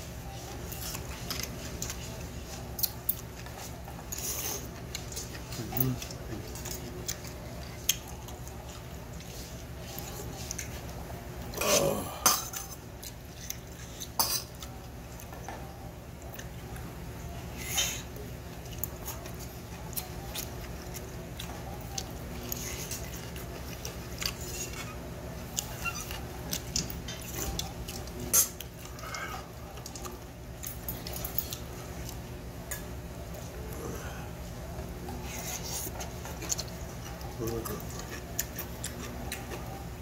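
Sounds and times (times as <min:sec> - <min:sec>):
chewing and mouth clicks: 0:00.4 - 0:11.1, 0:12.4 - 0:33.8, 0:34.4 - 0:40.0.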